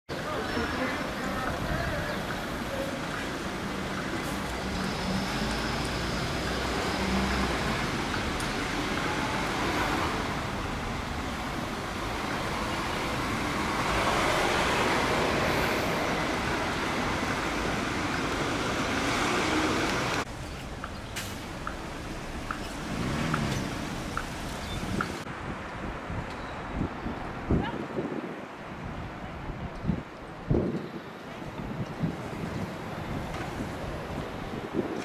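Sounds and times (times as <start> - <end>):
cars and buses driving past: 0.1 - 35.0.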